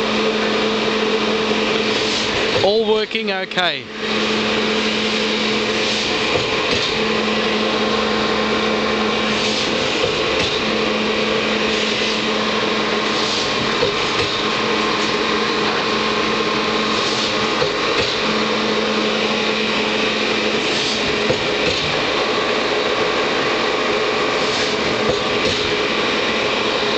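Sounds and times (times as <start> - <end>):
log slitter humming and whining: 0.0 - 26.9.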